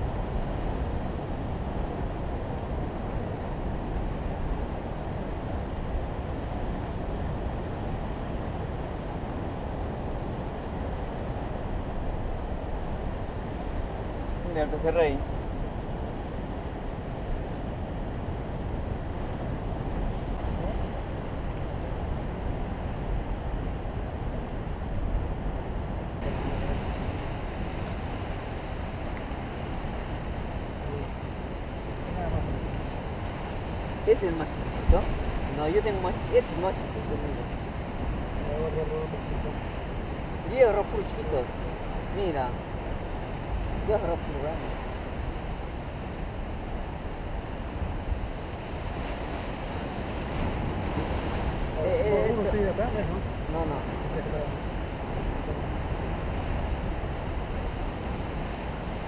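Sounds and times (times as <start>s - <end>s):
ocean surf breaking on rocks: 0.0s - 59.0s
wind buffeting microphone: 0.0s - 59.0s.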